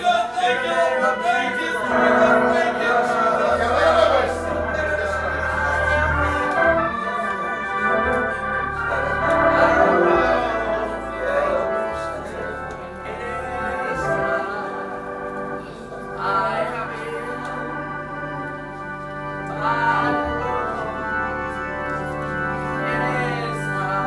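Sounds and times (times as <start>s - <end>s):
organ playing sustained chords: 0.0s - 24.0s.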